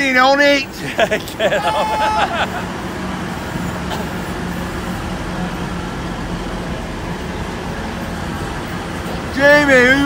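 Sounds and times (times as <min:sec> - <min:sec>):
train engine droning: 0:00.0 - 0:10.0.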